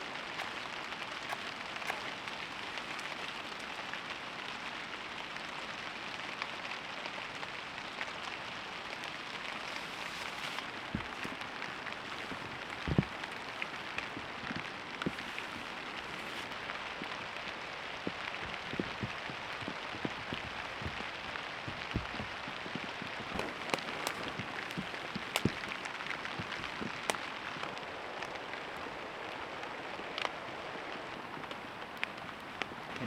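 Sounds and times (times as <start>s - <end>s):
raindrops tapping: 0.0s - 4.8s, 8.6s - 33.0s
rain falling: 0.0s - 33.0s.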